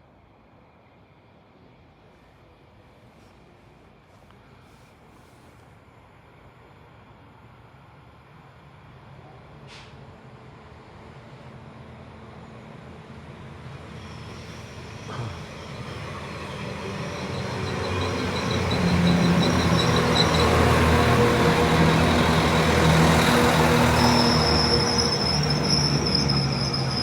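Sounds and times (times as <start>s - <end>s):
diesel train engine: 0.2s - 27.0s.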